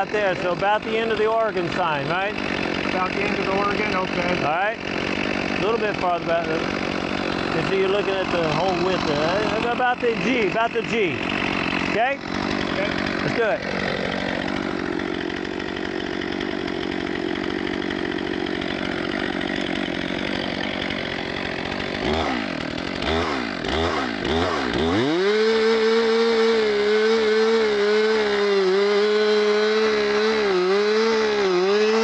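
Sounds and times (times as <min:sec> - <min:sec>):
chainsaw revving: 0:00.0 - 0:32.0.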